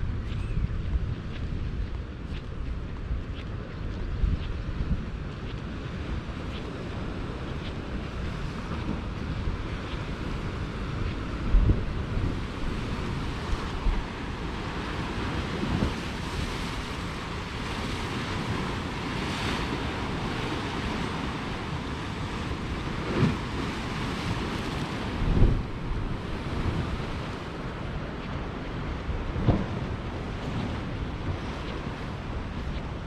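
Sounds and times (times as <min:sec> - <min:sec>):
wind buffeting microphone: 0:00.0 - 0:33.0
waves breaking on rocky shore: 0:02.8 - 0:33.0.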